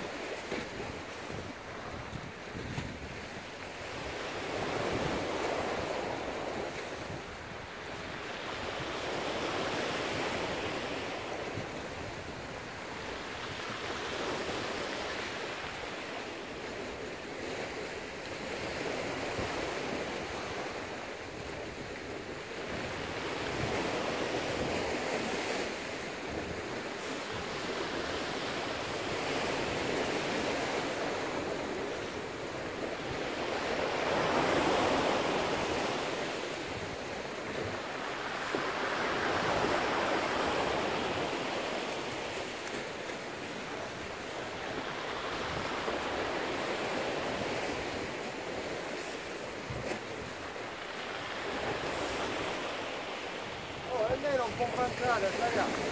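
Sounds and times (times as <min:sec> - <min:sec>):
sea waves surging against rocks: 0:00.0 - 0:55.9.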